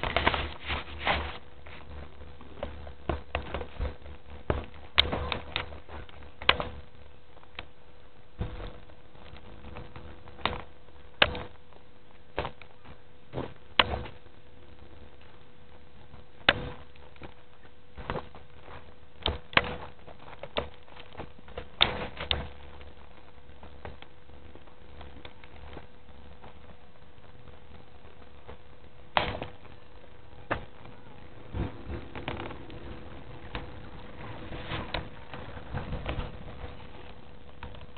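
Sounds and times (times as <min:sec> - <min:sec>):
faint hum: 0:00.0 - 0:37.9.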